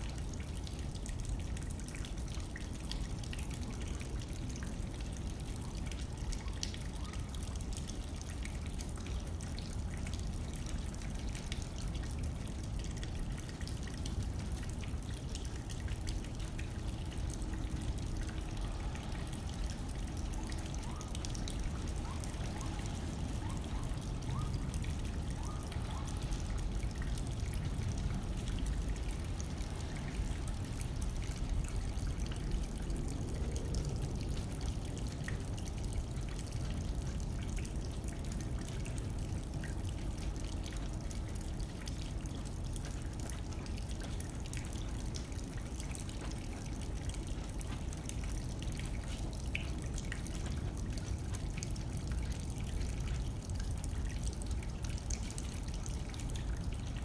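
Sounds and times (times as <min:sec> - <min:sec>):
low rumble of wind: 0:00.0 - 0:57.0
rain hitting a window: 0:00.0 - 0:57.0.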